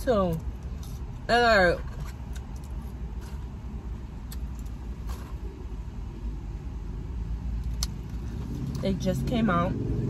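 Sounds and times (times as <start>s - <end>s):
car rumbling: 0.0s - 10.0s.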